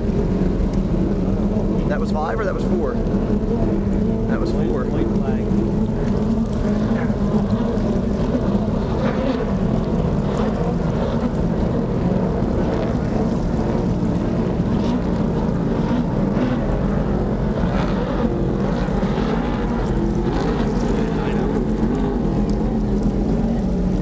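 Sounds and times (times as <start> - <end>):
motorboat engines droning: 0.0 - 24.0.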